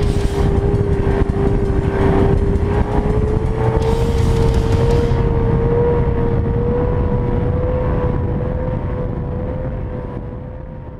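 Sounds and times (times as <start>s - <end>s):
outboard motor high whine: 0.0s - 10.9s.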